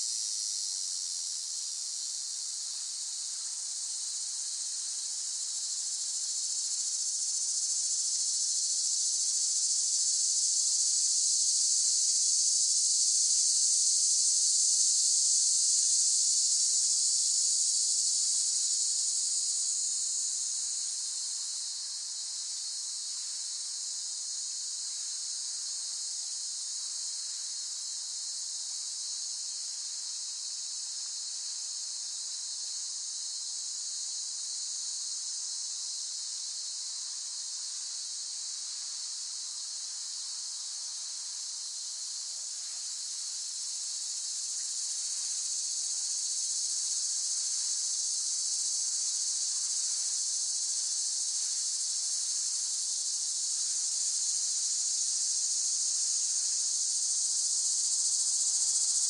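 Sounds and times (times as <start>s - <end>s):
cicadas buzzing: 2.7s - 27.8s, 28.7s - 31.3s, 31.9s - 59.0s.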